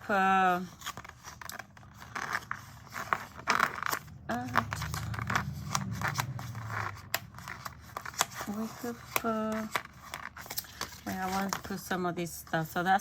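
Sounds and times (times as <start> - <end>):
paper rustling and crinkling: 0.2 - 13.0.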